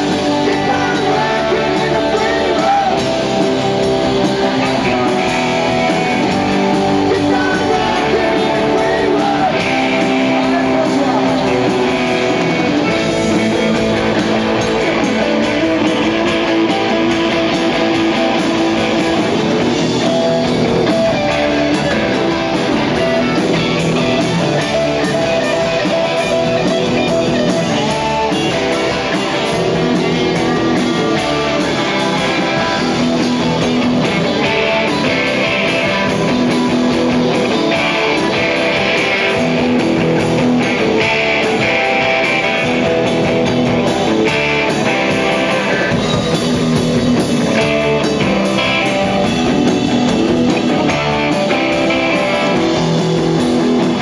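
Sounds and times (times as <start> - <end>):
electric guitars: 0.0 - 54.0
rock band playing loud: 0.0 - 54.0.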